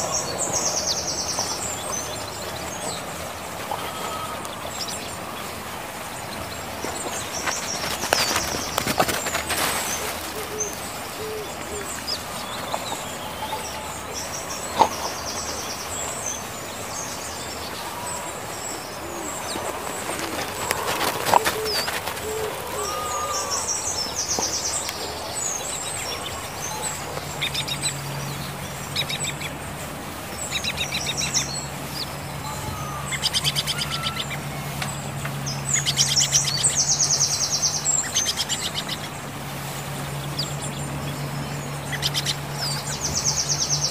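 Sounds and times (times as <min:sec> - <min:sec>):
small birds chirping and trilling: 0:00.0 - 0:43.9.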